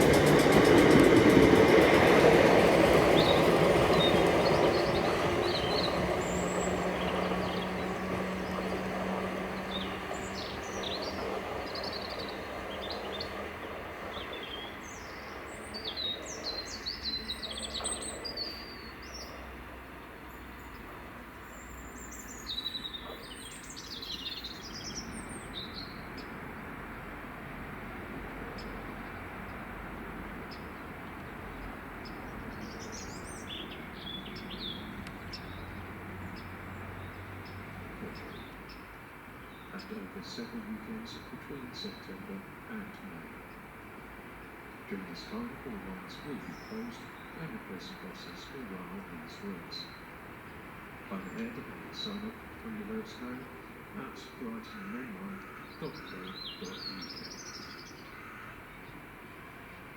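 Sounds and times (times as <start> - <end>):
small birds chirping: 0.0 - 26.7, 30.5 - 43.8, 44.4 - 59.1
passing train: 0.0 - 59.9.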